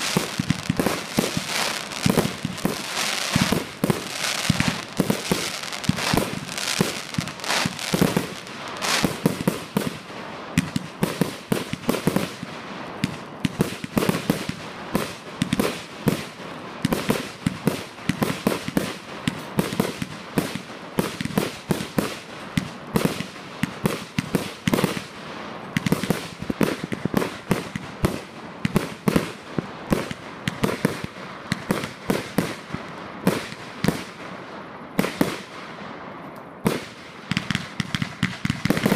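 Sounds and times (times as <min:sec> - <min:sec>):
fireworks launching and bursting: 0:00.0 - 0:34.4, 0:35.0 - 0:35.8, 0:36.6 - 0:38.9.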